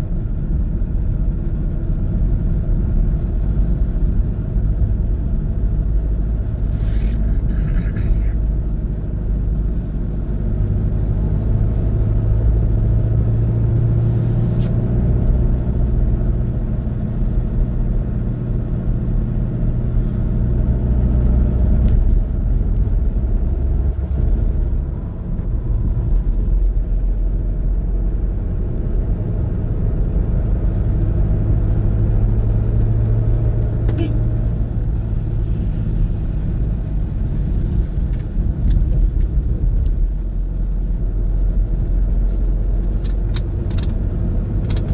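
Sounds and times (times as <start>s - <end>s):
car engine and road noise: 0.0s - 44.9s
constant low hum: 0.0s - 44.9s.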